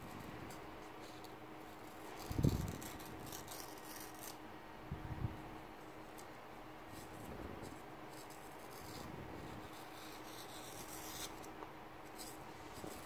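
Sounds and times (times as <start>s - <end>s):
blade cutting paper: 0.0s - 4.4s, 6.9s - 13.0s.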